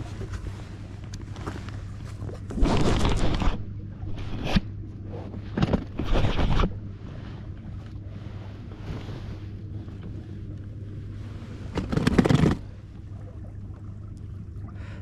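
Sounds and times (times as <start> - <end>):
rustling and scraping handling noise: 0.0 - 12.8
steady low hum: 0.0 - 15.0.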